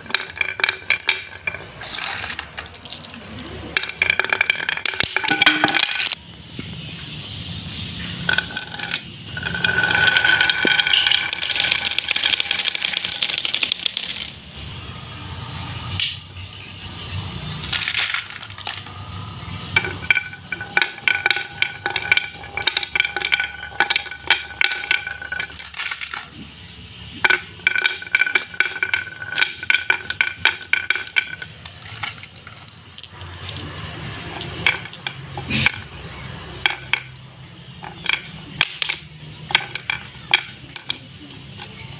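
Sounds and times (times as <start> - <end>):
marbles clattering down a track: 0.0 - 6.2, 7.7 - 41.9.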